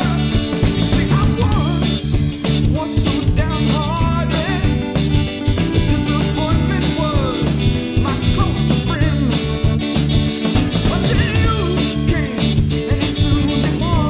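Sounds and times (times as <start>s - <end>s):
rock song with guitar and vocals: 0.0s - 14.0s.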